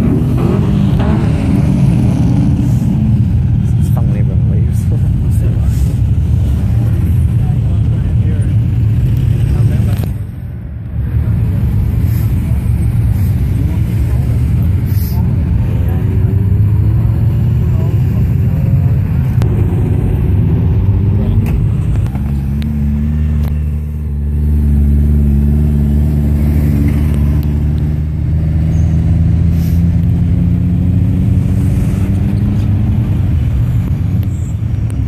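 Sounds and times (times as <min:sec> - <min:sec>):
engine revs: 0:00.0 - 0:10.4, 0:11.1 - 0:35.0
cars driving slowly past: 0:00.0 - 0:35.0.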